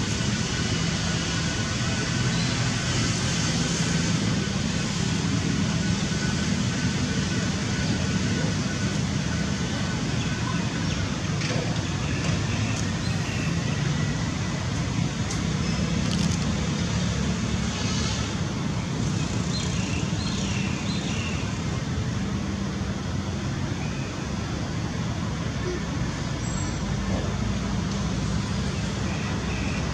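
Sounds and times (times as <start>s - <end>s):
low traffic rumble: 0.0s - 29.9s.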